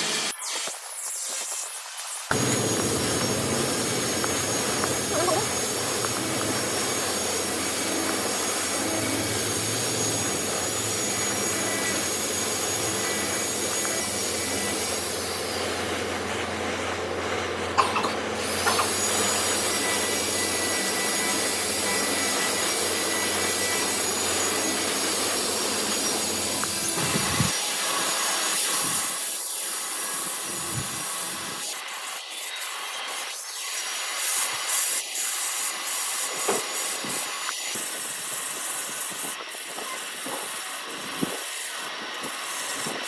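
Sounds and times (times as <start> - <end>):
woodworking power tool hissing: 0.0 - 43.0.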